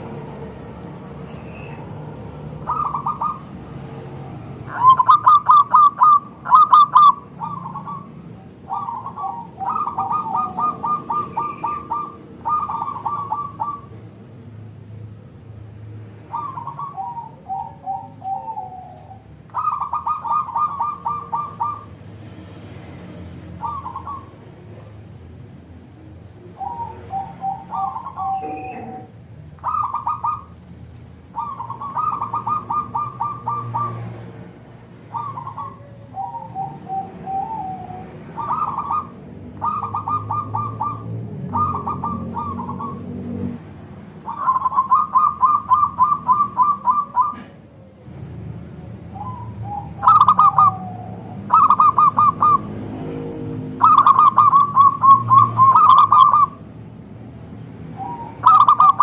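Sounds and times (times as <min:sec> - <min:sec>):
dove cooing: 0:00.0 - 0:14.2, 0:16.3 - 0:22.0, 0:23.3 - 0:25.1, 0:25.9 - 0:56.7, 0:57.9 - 0:59.0.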